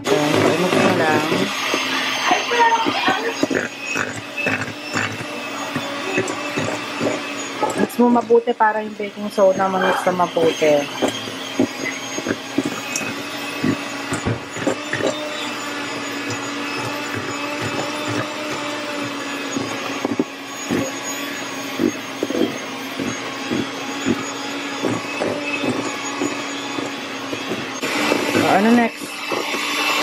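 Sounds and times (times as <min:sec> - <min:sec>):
electric hand mixer running: 0:00.0 - 0:30.0.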